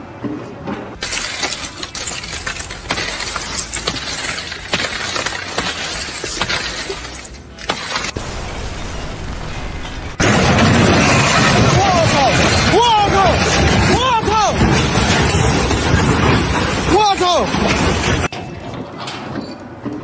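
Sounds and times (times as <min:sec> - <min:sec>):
crash of shattering objects: 0:01.0 - 0:18.3.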